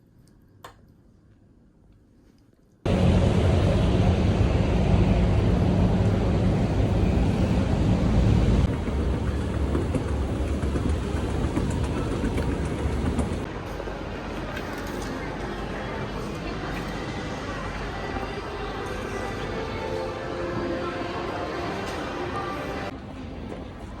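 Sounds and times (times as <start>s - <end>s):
steady loud rumbling noise: 2.9s - 24.0s.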